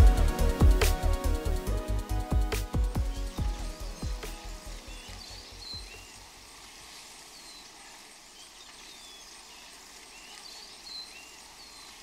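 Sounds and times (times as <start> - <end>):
birds chirping: 2.1 - 12.0.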